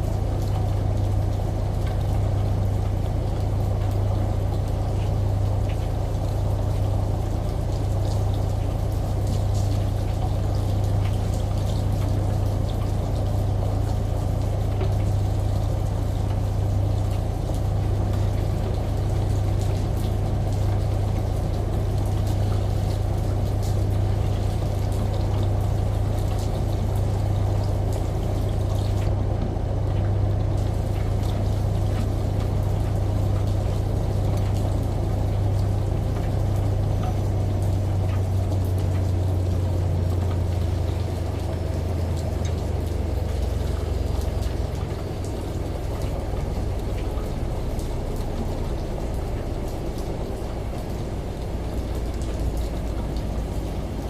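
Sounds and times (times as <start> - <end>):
running water: 0.0 - 54.0
washing machine humming: 0.0 - 54.0.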